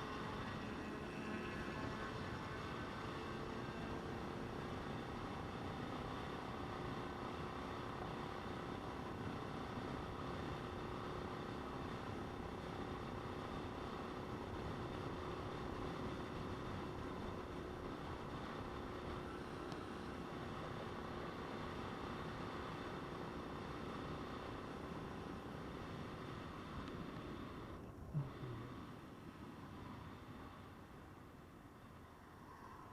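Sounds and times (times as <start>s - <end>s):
wind and road noise: 0.0s - 32.9s.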